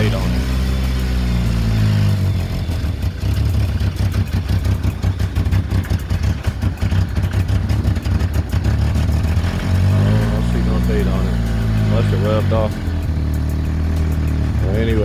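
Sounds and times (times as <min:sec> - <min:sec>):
car engine idling with clatter: 0:00.0 - 0:15.0.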